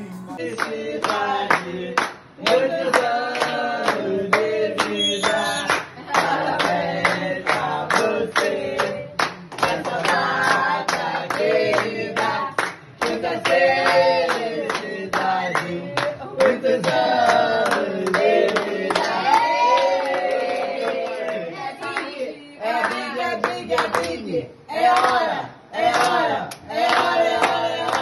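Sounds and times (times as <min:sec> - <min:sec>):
group singing a celebration song: 0:00.0 - 0:28.0
people clapping in time: 0:00.3 - 0:28.0.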